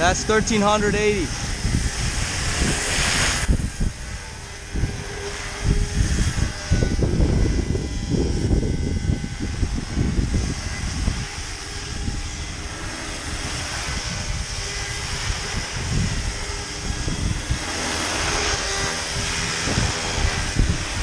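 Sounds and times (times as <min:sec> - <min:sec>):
rc helicopter rotor whine: 0:00.0 - 0:21.0
wind buffeting microphone: 0:00.0 - 0:21.0.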